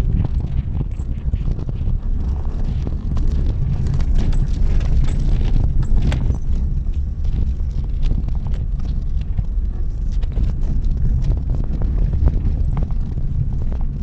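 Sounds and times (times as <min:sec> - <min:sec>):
car driving rumble: 0:00.0 - 0:14.0
gravel knocking under tyres: 0:00.0 - 0:14.0.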